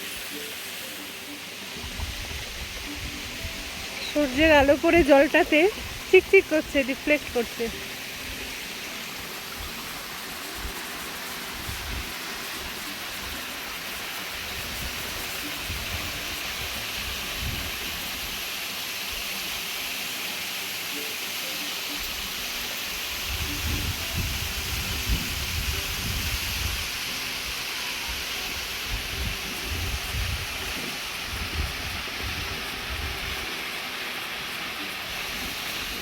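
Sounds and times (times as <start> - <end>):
waterfall splashing onto rocks: 0.0 - 36.0.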